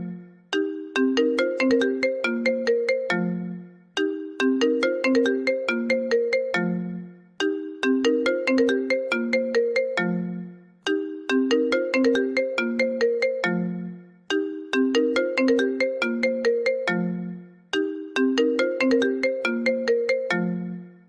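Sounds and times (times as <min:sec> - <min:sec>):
phone ringtone melody: 0:00.0 - 0:21.0.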